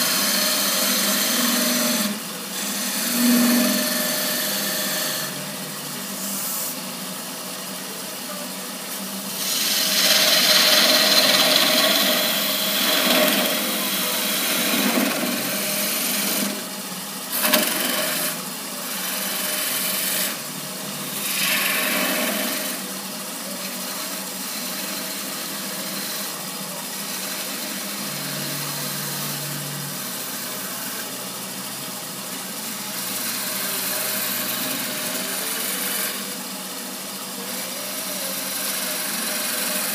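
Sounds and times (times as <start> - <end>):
turning tool cutting wood on lathe: 0.0 - 39.9.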